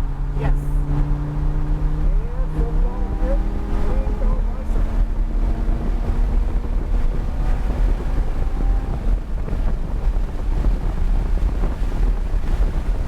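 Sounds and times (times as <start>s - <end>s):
car engine and road noise: 0.0s - 13.0s
wind buffeting microphone: 0.0s - 13.0s.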